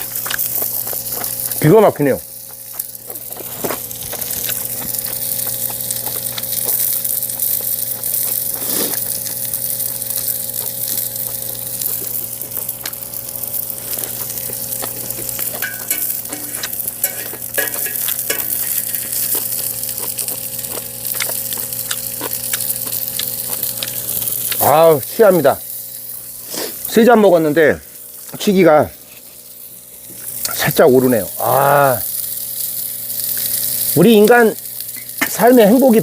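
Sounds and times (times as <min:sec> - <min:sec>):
fat spitting and crackling: 0:00.0 - 0:27.0, 0:30.2 - 0:35.3
lamb sizzling on a grill: 0:00.0 - 0:36.0.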